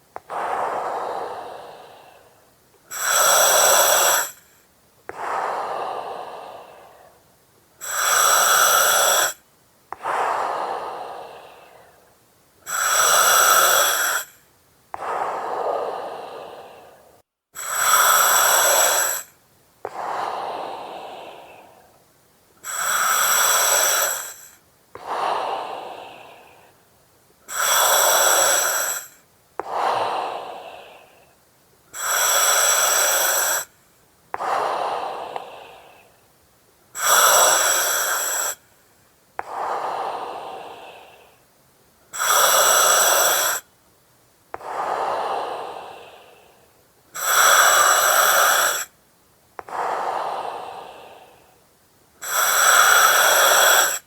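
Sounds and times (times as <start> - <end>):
breathing through oxygen mask: 0.0 - 7.2, 7.8 - 9.4, 10.0 - 14.4, 15.0 - 22.0, 22.6 - 26.8, 27.5 - 36.1, 37.0 - 38.7, 39.4 - 41.4, 42.1 - 43.6, 44.6 - 46.6, 47.2 - 48.9, 49.6 - 51.6, 52.2 - 54.0.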